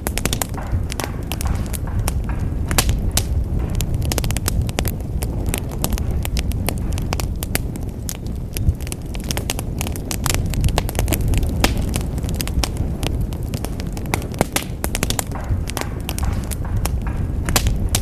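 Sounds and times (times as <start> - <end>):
fire low rumble: 0.0 - 18.0
wood fire crackling and popping: 0.0 - 18.0.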